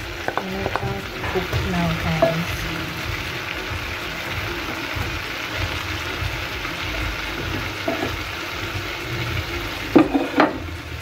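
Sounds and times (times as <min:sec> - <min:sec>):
chicken and onions sizzling in a pot: 0:00.0 - 0:11.0.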